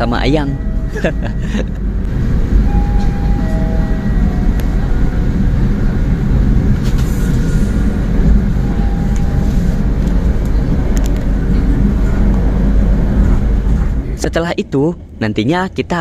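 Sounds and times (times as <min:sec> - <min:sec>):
train wheels rumbling: 0:00.0 - 0:15.3.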